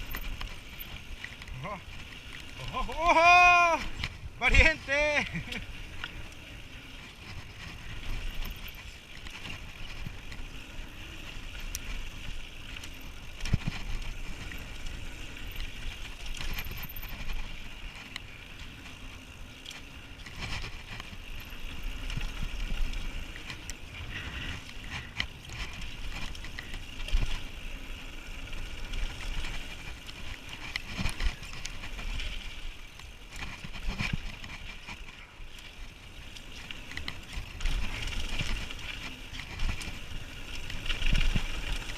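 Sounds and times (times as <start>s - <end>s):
bike rattling and knocking over bumps: 0.0s - 41.9s
mountain bike tyre and drivetrain noise: 0.0s - 41.9s.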